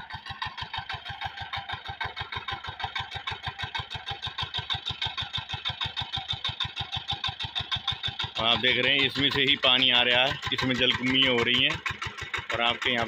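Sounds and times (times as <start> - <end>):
diesel engine put-put: 0.0 - 13.0
water pumping: 0.0 - 13.0.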